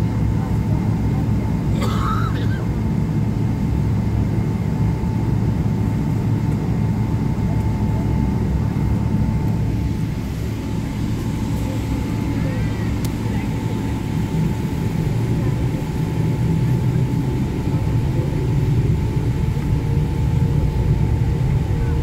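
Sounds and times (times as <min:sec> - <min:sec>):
airliner engines low rumble: 0:00.0 - 0:22.0
faint steady whine: 0:02.7 - 0:22.0.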